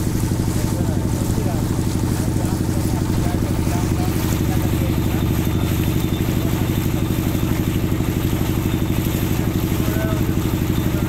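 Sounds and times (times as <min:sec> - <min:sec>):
motorboat engine chugging: 0:00.0 - 0:11.0.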